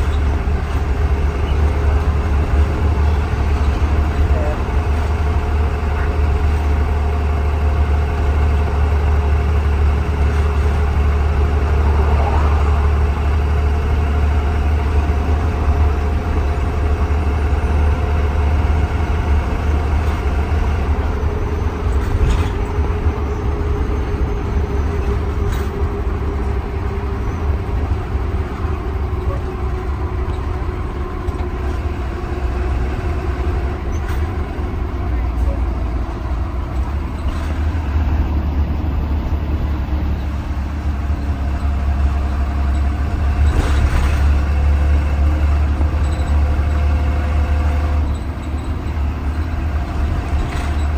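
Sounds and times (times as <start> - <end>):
bus engine drone: 0.0 - 50.9.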